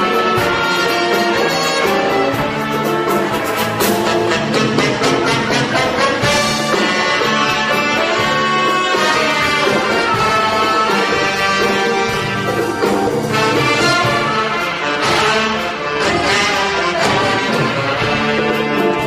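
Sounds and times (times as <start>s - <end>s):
brass section: 0.0s - 19.0s
drums and percussion: 0.0s - 19.0s
pop orchestra playing: 0.0s - 19.0s.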